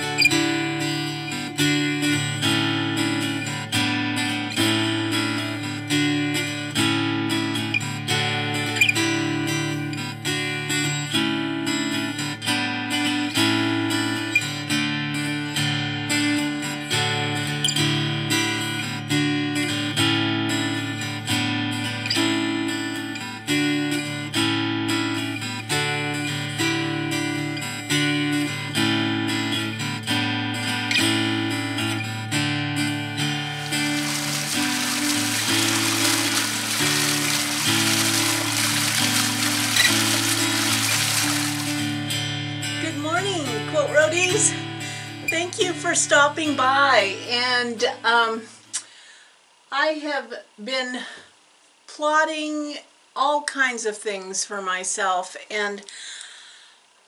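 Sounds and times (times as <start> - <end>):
strummed acoustic guitar: 0.0 - 48.3.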